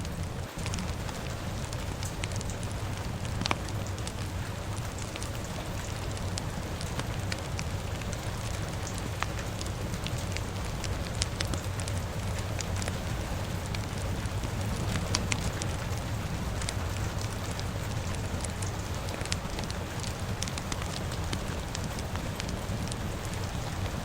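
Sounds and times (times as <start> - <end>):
fire crackling and popping: 0.0 - 24.0
steady rain: 0.0 - 24.0.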